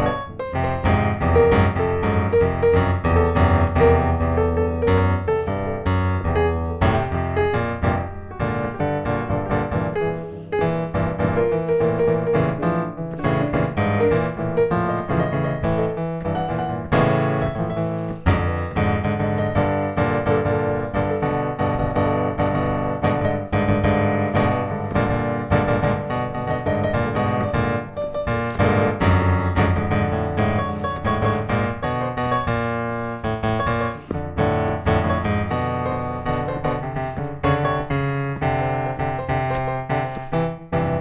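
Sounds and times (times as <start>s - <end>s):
piano music: 0.0s - 41.0s.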